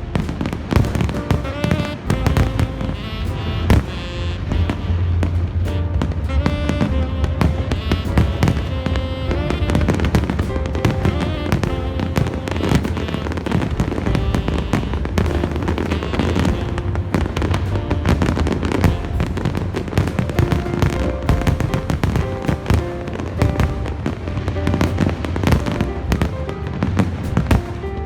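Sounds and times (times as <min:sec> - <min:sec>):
fireworks bangs: 0:00.0 - 0:28.0
loud music with held notes: 0:00.0 - 0:28.0.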